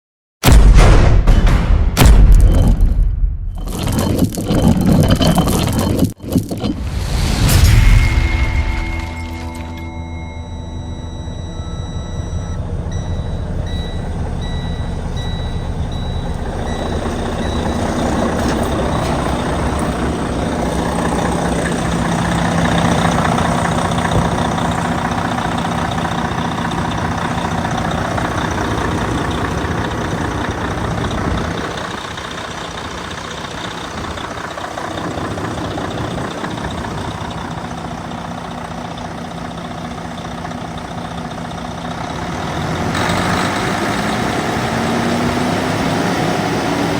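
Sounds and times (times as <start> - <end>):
diesel engine running: 3.5 - 46.9.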